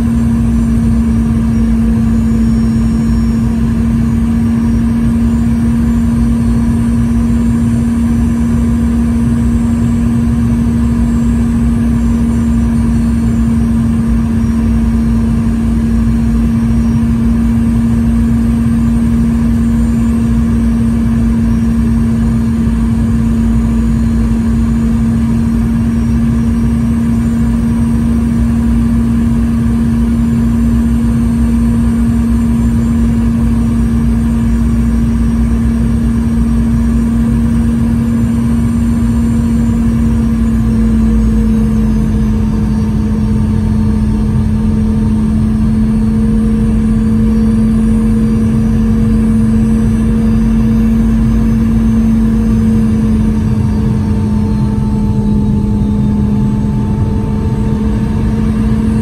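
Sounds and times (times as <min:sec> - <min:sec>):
jet engine cabin drone: 0:00.0 - 0:59.0.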